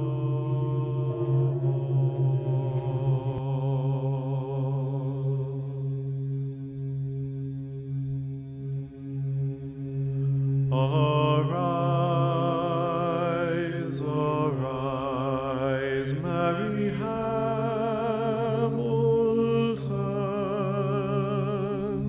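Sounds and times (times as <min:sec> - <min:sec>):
person chanting with vibrato: 0:00.0 - 0:06.5, 0:10.7 - 0:22.0
low drone: 0:00.0 - 0:22.0.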